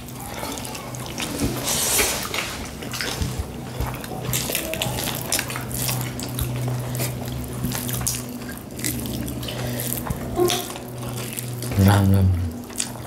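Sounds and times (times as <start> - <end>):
fingers mixing food squelching: 0.0 - 13.0
steady low hum: 0.0 - 13.0
wet eating sounds: 0.0 - 13.0.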